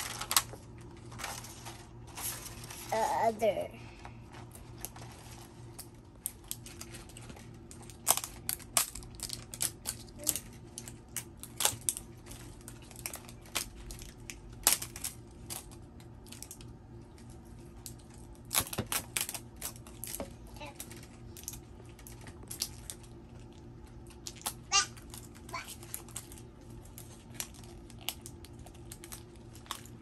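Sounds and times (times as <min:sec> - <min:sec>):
plastic packaging crinkling: 0:00.0 - 0:03.2, 0:04.2 - 0:30.0.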